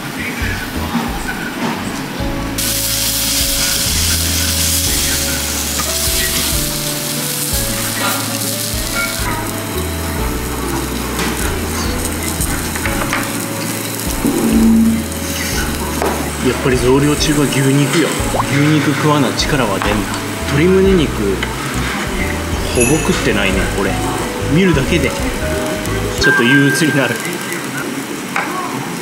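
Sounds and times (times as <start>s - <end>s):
background music with bass line: 0.0s - 26.3s
steak sizzling on hot stone: 2.6s - 28.3s.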